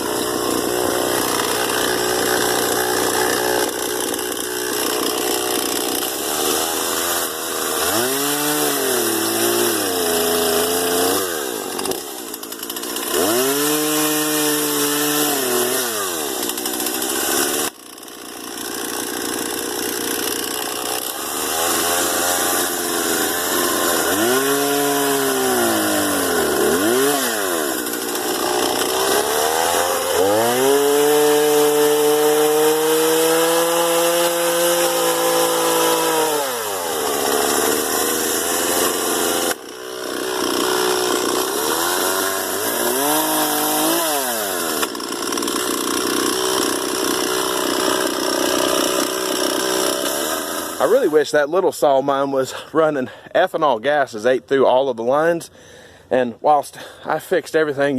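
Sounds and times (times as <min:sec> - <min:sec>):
chainsaw cutting tree limbs: 0:00.0 - 0:57.9.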